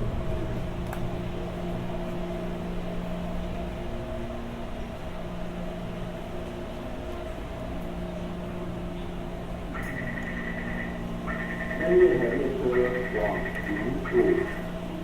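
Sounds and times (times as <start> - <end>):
electrical hum with constant tones: 0.0 - 15.0
train low rumble: 0.0 - 15.0.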